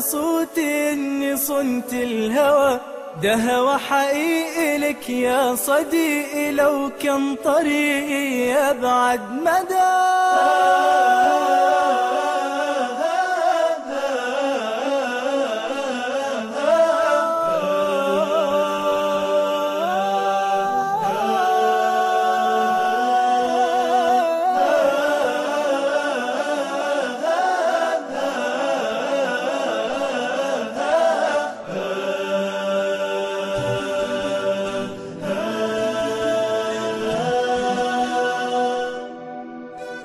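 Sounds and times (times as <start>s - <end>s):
layered voices singing wordlessly: 0.0s - 40.0s.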